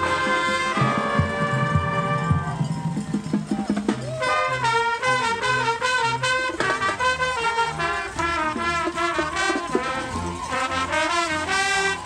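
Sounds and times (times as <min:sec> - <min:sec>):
trumpets playing brisk tune: 0:00.0 - 0:12.0.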